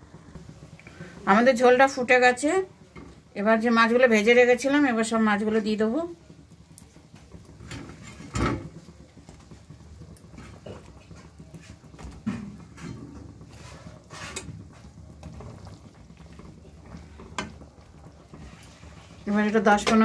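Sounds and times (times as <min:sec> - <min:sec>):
gravy bubbling in a metal pan: 0:00.0 - 0:20.0.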